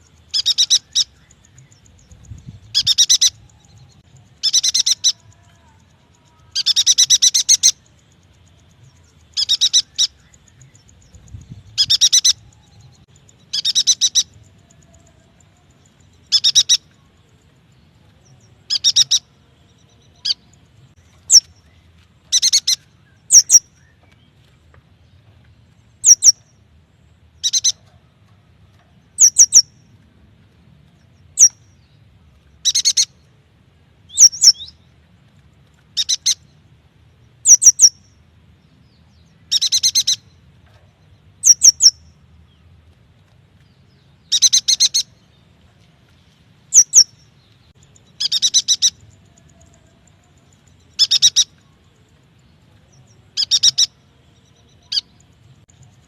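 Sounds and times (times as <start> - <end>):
bird chirping: 0.0 - 30.0, 30.8 - 33.4, 34.1 - 35.0, 35.7 - 42.7, 43.5 - 56.0.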